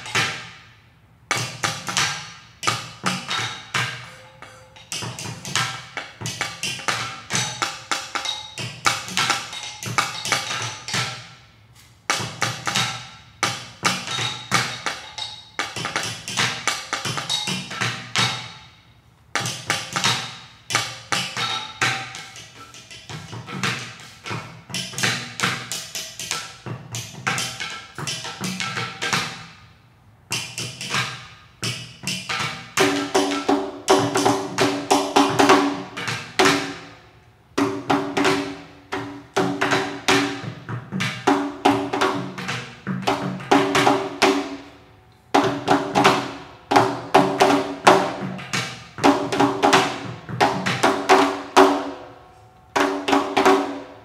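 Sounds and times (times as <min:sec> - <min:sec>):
ceramic percussion struck rhythmically: 0:00.0 - 0:00.7, 0:01.3 - 0:11.5, 0:12.1 - 0:52.1, 0:52.7 - 0:54.0.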